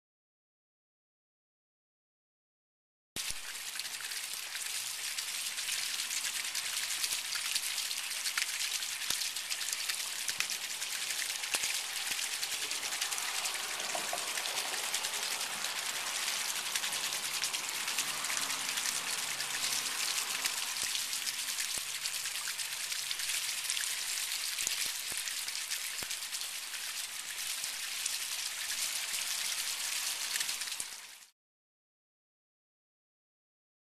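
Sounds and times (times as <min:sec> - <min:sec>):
dripping water patter: 0:03.2 - 0:31.3
water splashing down rain chain: 0:03.2 - 0:31.3.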